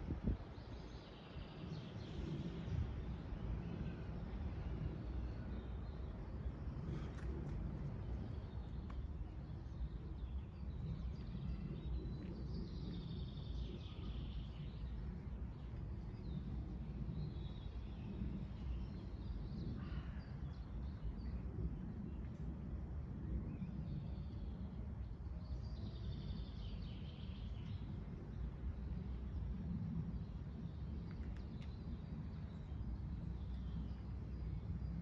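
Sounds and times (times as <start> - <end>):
low outdoor rumble: 1.5 - 35.0.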